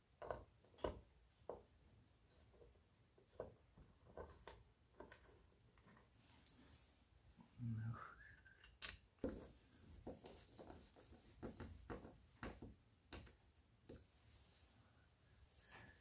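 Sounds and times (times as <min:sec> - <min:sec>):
faint irregular taps and clicks: 0:00.0 - 0:06.8, 0:08.5 - 0:14.6.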